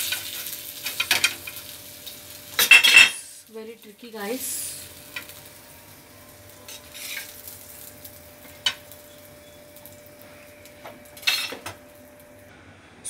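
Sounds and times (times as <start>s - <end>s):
oil sizzling: 0.0s - 12.5s.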